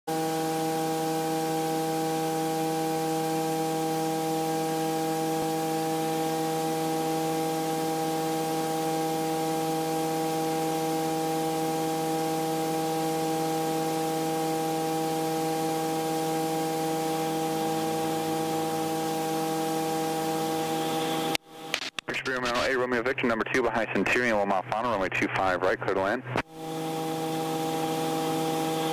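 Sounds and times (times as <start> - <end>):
aircraft propeller hum: 0.1 - 28.9.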